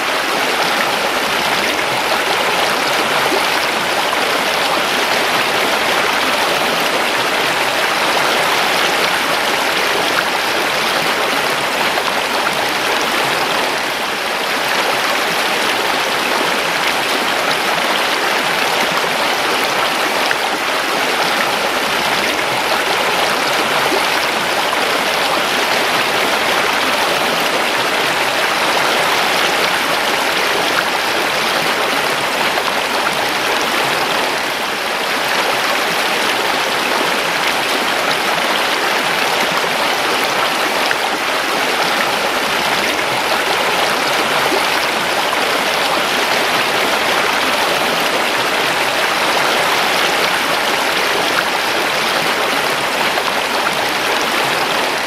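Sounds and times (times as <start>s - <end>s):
creek water babbling over stones: 0.0s - 55.0s.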